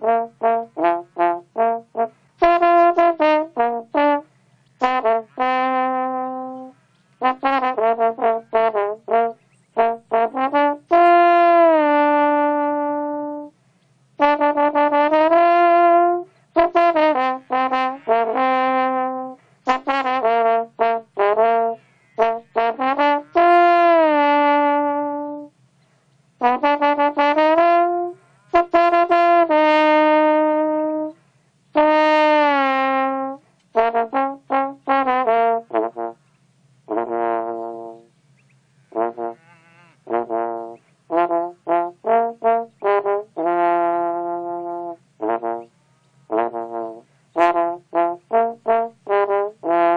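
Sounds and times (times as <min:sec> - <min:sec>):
brass-like melody: 0:00.0 - 0:13.6, 0:14.2 - 0:25.6, 0:26.4 - 0:36.2, 0:36.8 - 0:38.1, 0:38.9 - 0:49.9.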